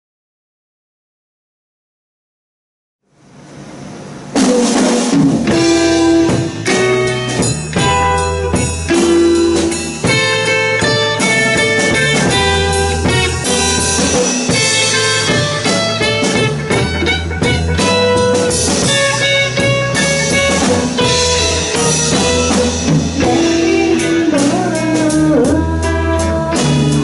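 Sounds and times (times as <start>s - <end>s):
electric bass: 3.2s - 27.0s
drum kit: 3.4s - 27.0s
electric guitar: 4.2s - 27.0s.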